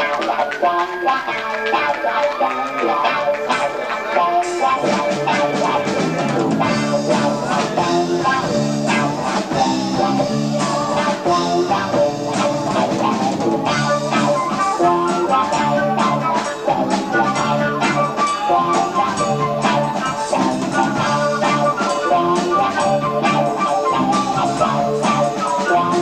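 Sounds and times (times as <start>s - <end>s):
bass guitar: 0.0s - 26.0s
drum kit: 0.0s - 26.0s
electric guitar: 0.0s - 26.0s.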